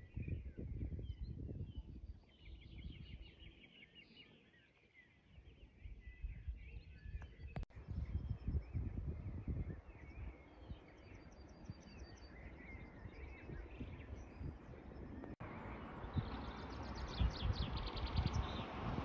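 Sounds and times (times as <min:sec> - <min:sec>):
wind rumbling on microphone: 0:00.0 - 0:03.6, 0:05.3 - 0:19.0
songbirds trilling: 0:00.0 - 0:18.8.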